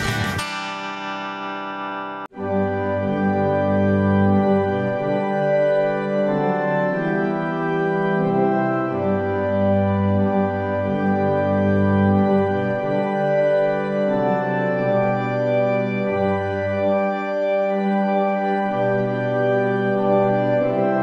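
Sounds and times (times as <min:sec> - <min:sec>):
organ playing slow chords: 0:02.3 - 0:21.0.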